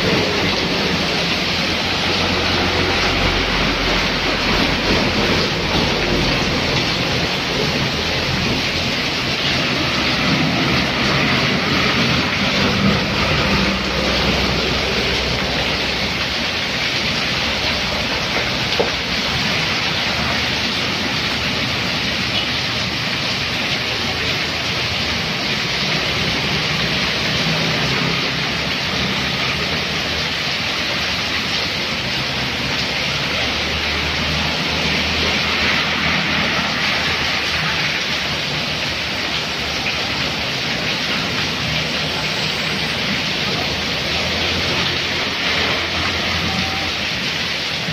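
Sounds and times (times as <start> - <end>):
heavy rain pouring on road and awning: 0.0 - 47.9
vehicle engines passing through water: 0.0 - 47.9.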